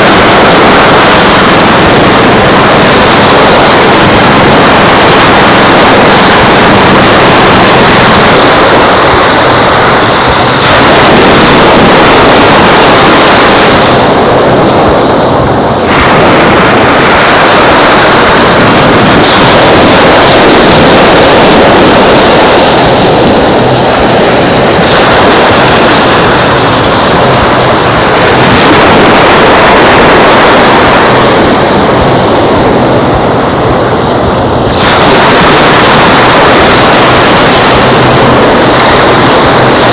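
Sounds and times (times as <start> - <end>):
surf washing on beach: 0.0 - 39.9
wind on microphone: 0.0 - 39.9.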